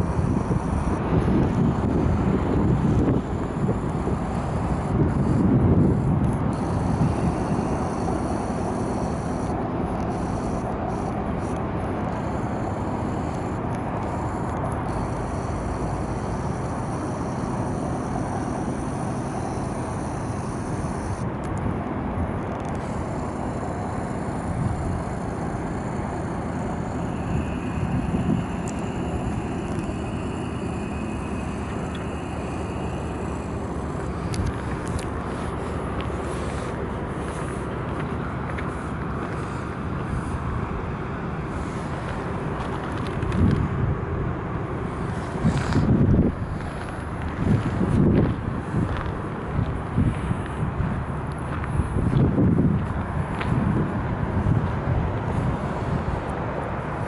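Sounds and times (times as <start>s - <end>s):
boat engine running: 0.0s - 57.0s
outdoor noise rush: 0.0s - 57.0s.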